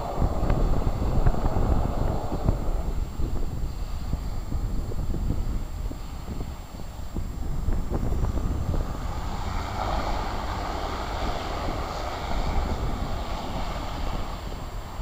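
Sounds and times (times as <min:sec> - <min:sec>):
turboprop engines running: 0:00.0 - 0:15.0
wind rumbling on microphone: 0:00.0 - 0:15.0.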